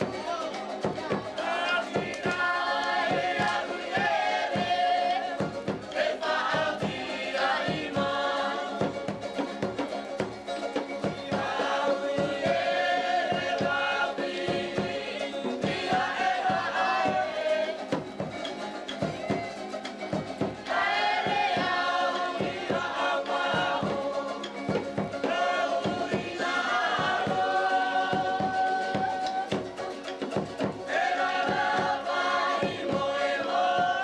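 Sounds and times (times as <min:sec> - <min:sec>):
group of voices singing: 0:00.0 - 0:34.0
quick steady drum beat: 0:00.0 - 0:34.0.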